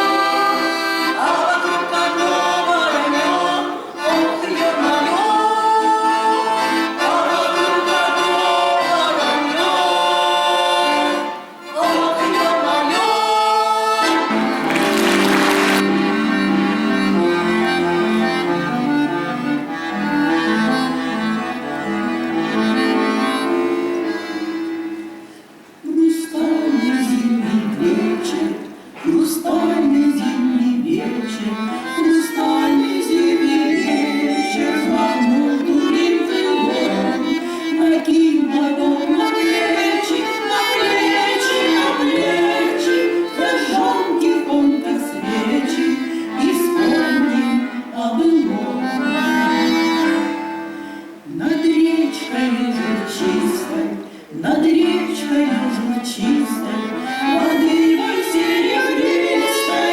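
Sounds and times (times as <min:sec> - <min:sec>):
accordion music: 0:00.0 - 0:25.8, 0:29.5 - 0:59.9.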